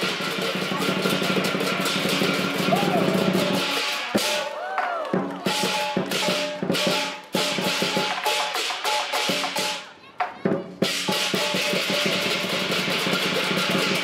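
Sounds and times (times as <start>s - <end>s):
cymbals clashing: 0.0s - 4.8s, 5.4s - 9.9s, 10.8s - 14.0s
lion dance drum: 0.0s - 14.0s.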